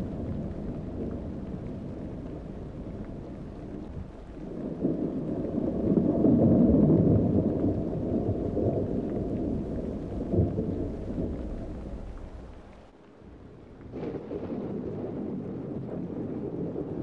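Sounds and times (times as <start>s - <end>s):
rolling thunder: 0.0s - 17.0s.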